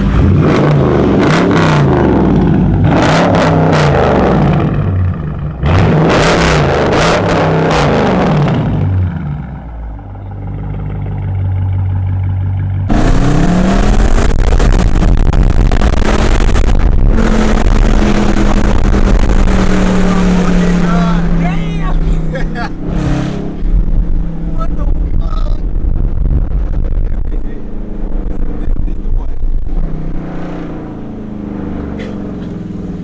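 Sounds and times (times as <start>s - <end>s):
car engine revving: 0.0s - 33.0s
exhaust cracks: 0.0s - 33.0s.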